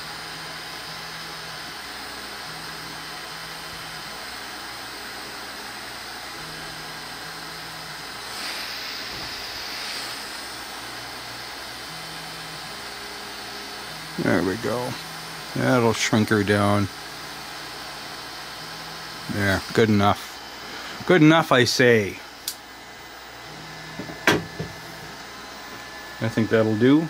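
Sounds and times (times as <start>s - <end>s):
heat gun fan rushing: 0.0s - 27.0s.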